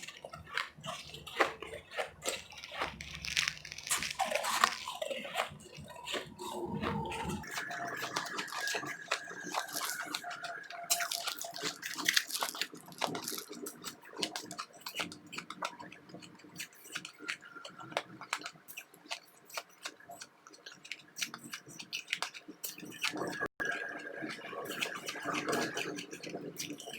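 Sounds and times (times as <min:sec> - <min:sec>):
ice chips being chewed: 0:00.0 - 0:26.9.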